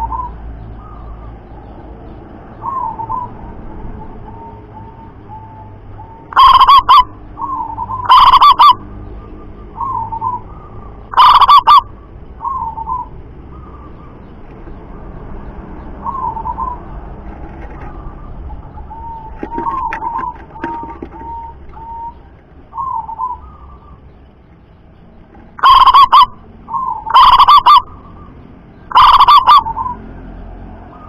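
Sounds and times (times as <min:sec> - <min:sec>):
doves cooing: 0:00.0 - 0:01.8, 0:02.6 - 0:30.1.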